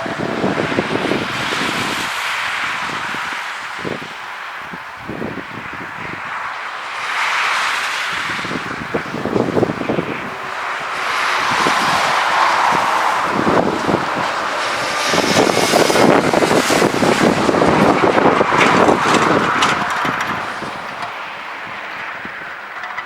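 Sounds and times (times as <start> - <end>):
jet engines rushing past: 0.0 - 22.8.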